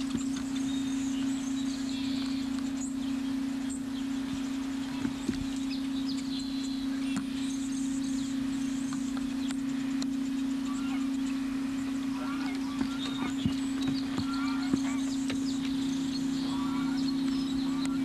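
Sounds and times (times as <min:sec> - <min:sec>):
birds chirping and calling: 0:00.0 - 0:18.0
steady low hum: 0:00.0 - 0:18.0.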